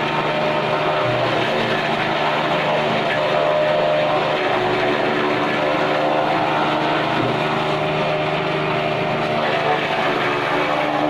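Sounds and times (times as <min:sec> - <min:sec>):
chaff cutter chopping stalks: 0:00.0 - 0:11.0.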